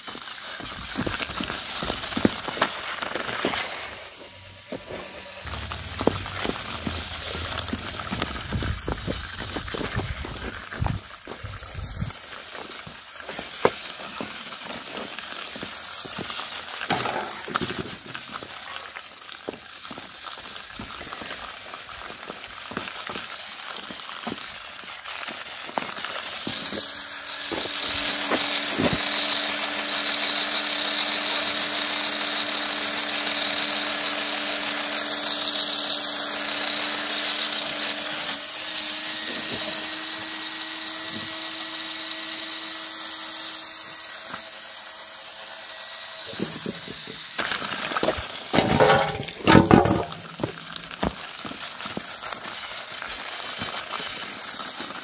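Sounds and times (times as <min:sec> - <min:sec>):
small electric motor whirring: 0:00.0 - 0:55.0.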